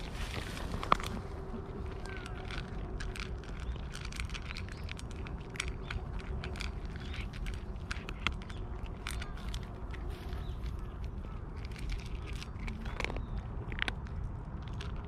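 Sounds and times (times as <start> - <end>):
cats crunching dry kibble: 0.0 - 15.0
low steady background rumble: 0.0 - 15.0.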